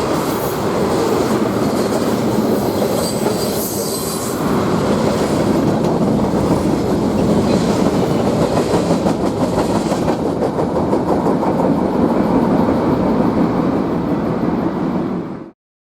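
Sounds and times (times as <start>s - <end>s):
steel wheels rumbling on rail: 0.0s - 15.6s.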